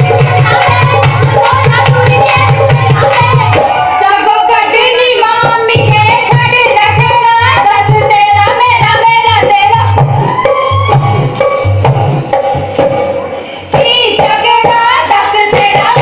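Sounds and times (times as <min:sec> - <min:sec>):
pulsing drum beat: 0:00.0 - 0:04.0, 0:05.3 - 0:16.0
song over stage loudspeakers: 0:00.0 - 0:16.0.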